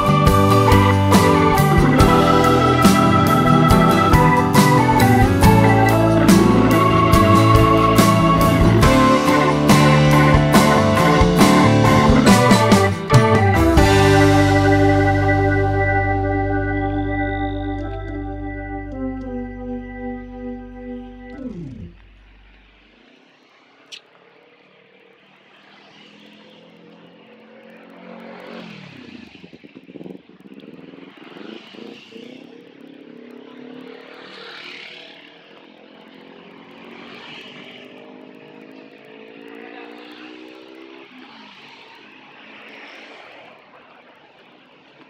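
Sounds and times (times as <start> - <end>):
cars passing: 0.0 - 45.0
motorcycles passing: 0.0 - 45.0.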